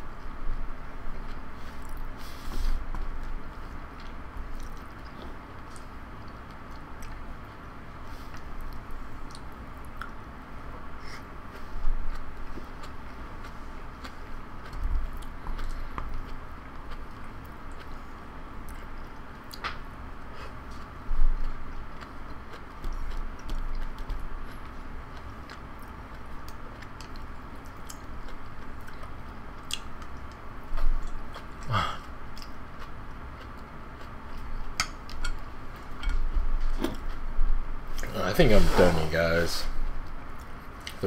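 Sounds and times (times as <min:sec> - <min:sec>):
person chewing noodles: 0:01.2 - 0:10.2, 0:11.0 - 0:36.2.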